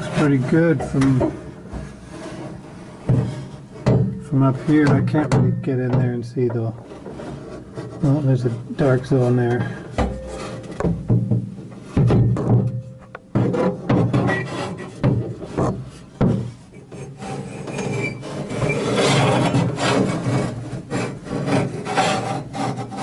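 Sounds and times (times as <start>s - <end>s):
scraping against truck door: 0.0s - 23.0s.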